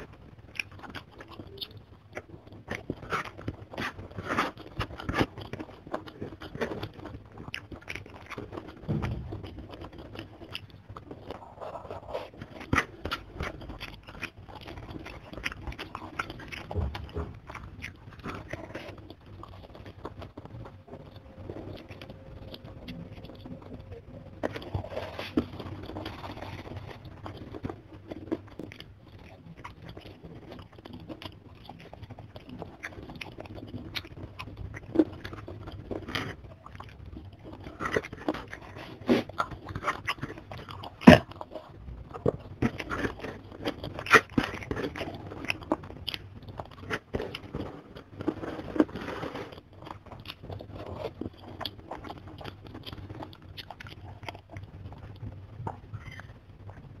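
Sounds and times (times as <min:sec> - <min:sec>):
chewing crisp fried food: 0:00.0 - 0:57.0
wet mouth sounds: 0:00.0 - 0:57.0.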